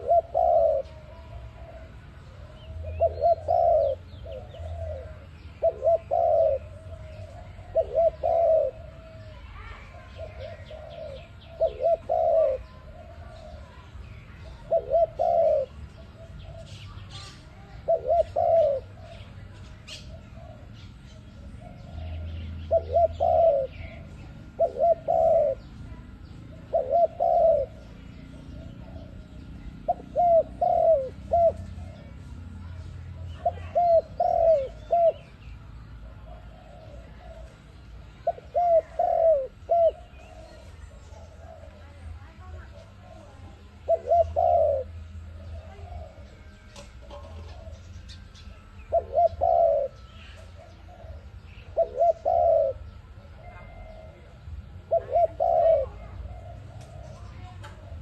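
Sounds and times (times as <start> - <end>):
dove cooing: 0.0 - 58.0
small birds chirping: 0.0 - 58.0.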